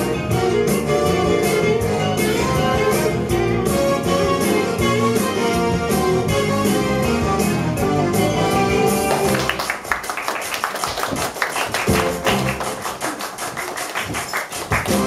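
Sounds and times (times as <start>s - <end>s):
stage show backing music: 0.0s - 15.0s.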